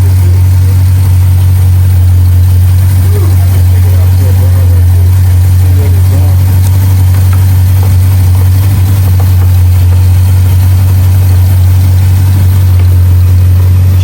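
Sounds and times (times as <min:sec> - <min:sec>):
engine idling drone: 0:00.0 - 0:14.0
faint voices: 0:00.0 - 0:14.0.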